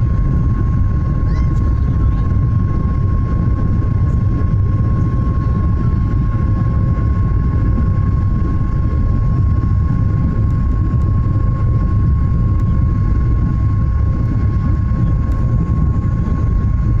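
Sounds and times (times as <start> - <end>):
jet engines roaring with whine: 0.0 - 17.0.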